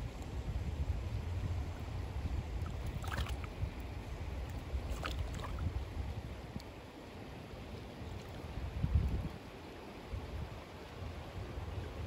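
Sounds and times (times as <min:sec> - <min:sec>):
creek water: 0:00.0 - 0:12.0
wind rumbling on microphone: 0:00.0 - 0:12.0.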